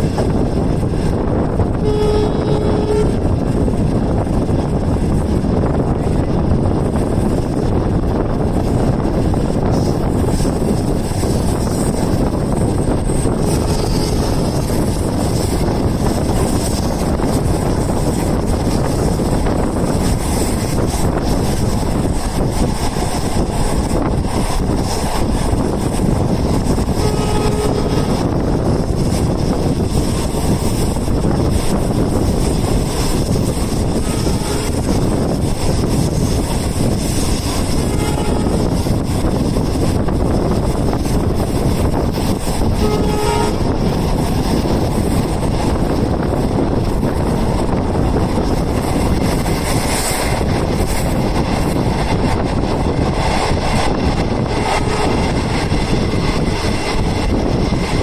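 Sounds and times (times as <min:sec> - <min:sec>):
train wheels on rails: 0:00.0 - 0:58.0
wind rushing: 0:00.0 - 0:58.0.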